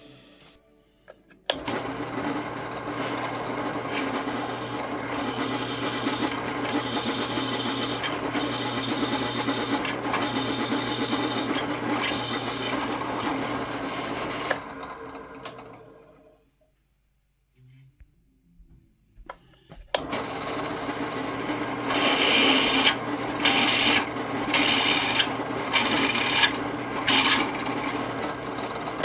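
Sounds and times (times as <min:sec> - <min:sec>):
drill press drilling metal: 0:01.5 - 0:15.9, 0:20.0 - 0:29.0.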